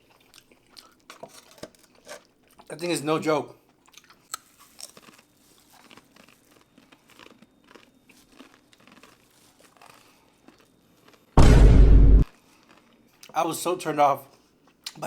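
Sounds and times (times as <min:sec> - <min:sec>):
chewing and mouth clicks: 0:00.0 - 0:02.7, 0:03.6 - 0:11.4, 0:12.4 - 0:13.4, 0:14.3 - 0:15.0
food crunching: 0:00.0 - 0:03.0, 0:03.6 - 0:11.4, 0:12.3 - 0:13.4, 0:14.3 - 0:15.0.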